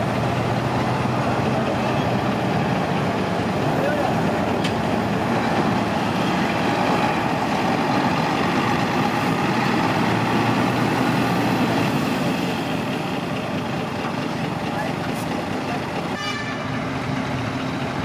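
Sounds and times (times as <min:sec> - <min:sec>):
heavy machinery diesel engine running: 0:00.0 - 0:18.0.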